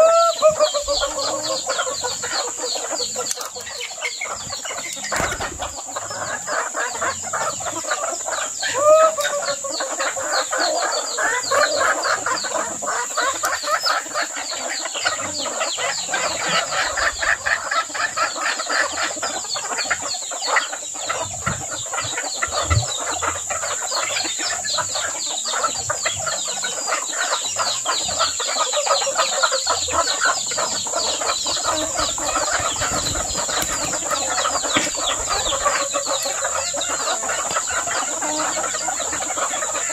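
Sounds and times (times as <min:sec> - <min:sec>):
chickens clucking: 0:00.0 - 0:39.9
chickens pecking at feed: 0:00.0 - 0:39.9.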